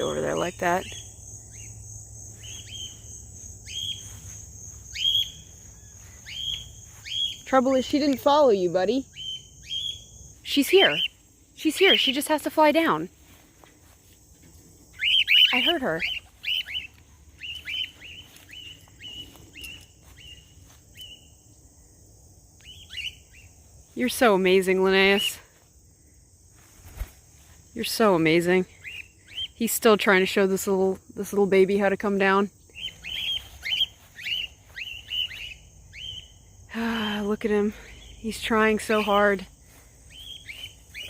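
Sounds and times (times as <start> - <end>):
crickets droning: 0.0 - 41.0
insects trilling: 0.0 - 41.0.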